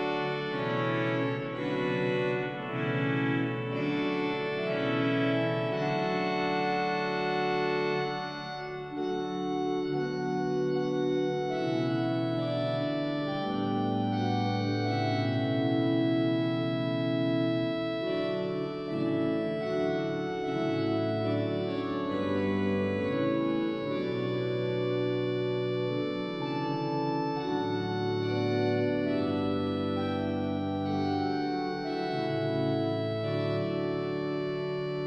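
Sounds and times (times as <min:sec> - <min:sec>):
organ chords over bass line: 0:00.0 - 0:35.0.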